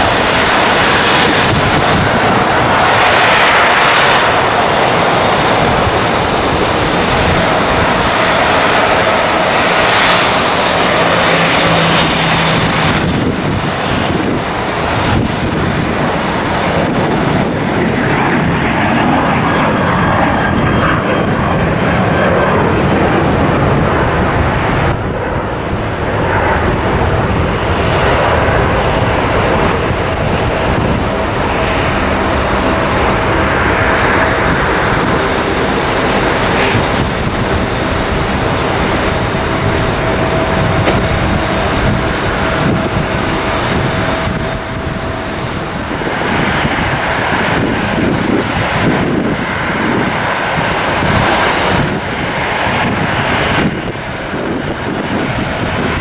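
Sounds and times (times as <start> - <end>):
airliner engines whining: 0.0 - 56.0
wind buffeting microphone: 0.0 - 56.0.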